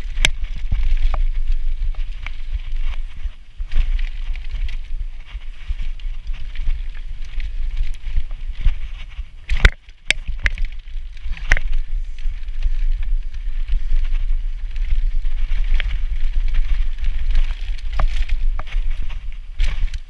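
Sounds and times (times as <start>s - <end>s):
bike clicks and rattles: 0.0s - 20.0s
wind rumble on microphone: 0.0s - 20.0s.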